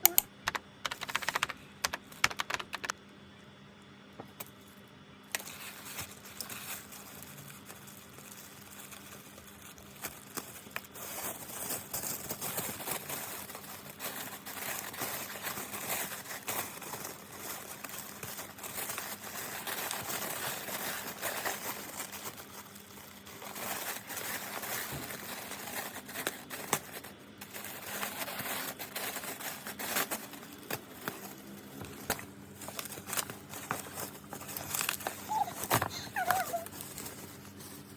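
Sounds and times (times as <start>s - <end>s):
plastic and paper crinkling: 0.1s - 3.0s, 5.4s - 37.9s.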